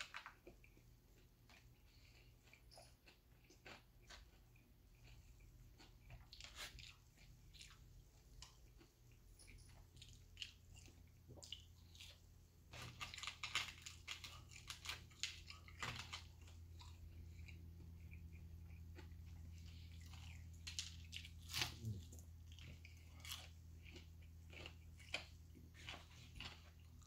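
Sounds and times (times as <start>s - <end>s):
low steady hum: 0.0s - 27.0s
person chewing crunchy food: 0.0s - 27.0s.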